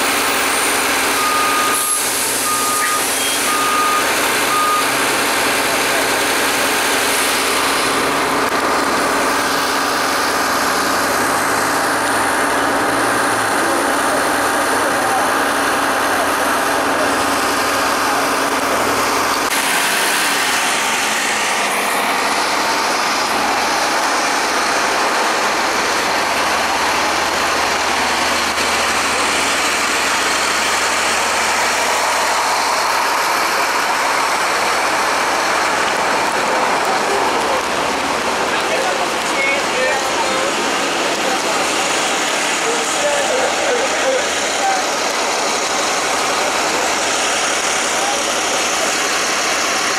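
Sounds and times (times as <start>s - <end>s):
bus engines idling: 0.0s - 49.9s
people talking: 0.0s - 49.9s
street noise: 0.0s - 49.9s.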